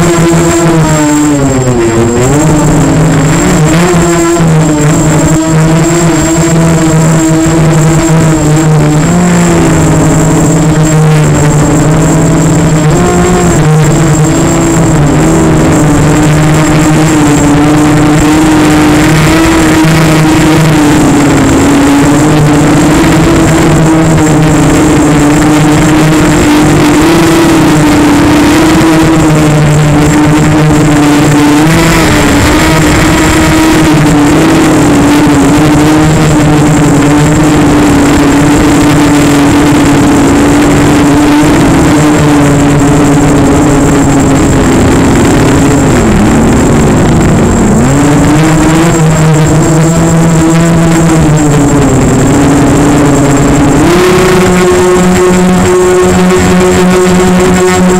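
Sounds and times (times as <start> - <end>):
drone motors and propellers whining: 0.0 - 57.9.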